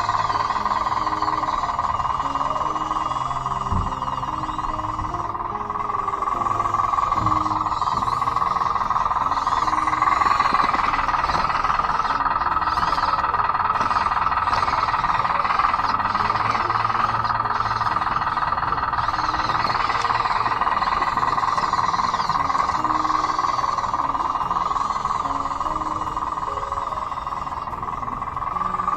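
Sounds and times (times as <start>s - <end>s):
electric motor whine: 0.0s - 28.9s
toy bulldozer track noise: 0.0s - 28.9s.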